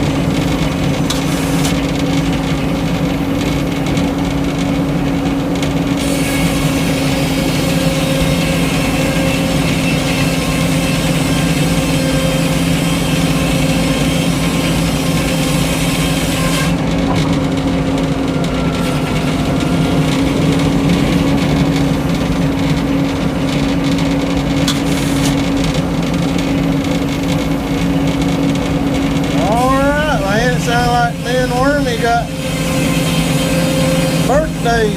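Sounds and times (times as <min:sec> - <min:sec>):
saw blade cutting wood: 0:00.0 - 0:01.9, 0:06.0 - 0:27.5, 0:29.3 - 0:34.9
sawmill engine droning: 0:00.0 - 0:34.9.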